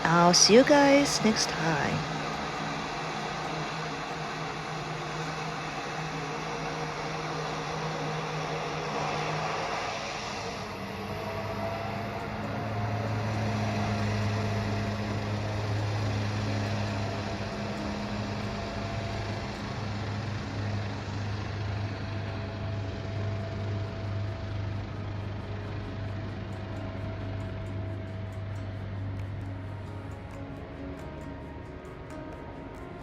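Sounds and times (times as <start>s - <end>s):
ship engines humming: 0.0s - 33.0s.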